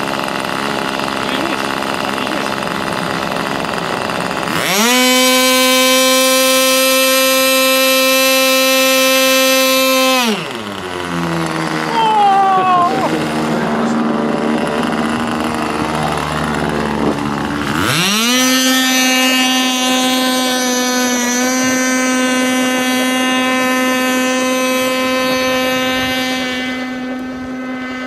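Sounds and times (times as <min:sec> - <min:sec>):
model boat engine whine: 0:00.0 - 0:28.0.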